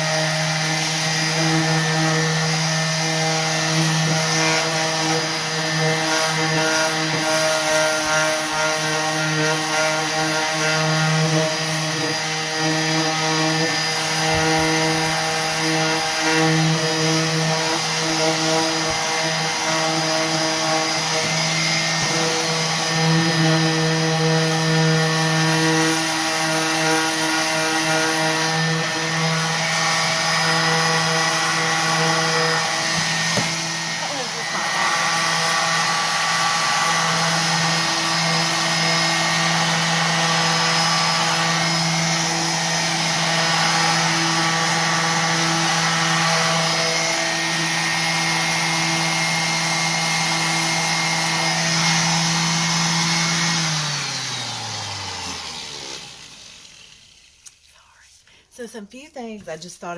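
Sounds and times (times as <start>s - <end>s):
orbital sander motor hum: 0.0s - 57.5s.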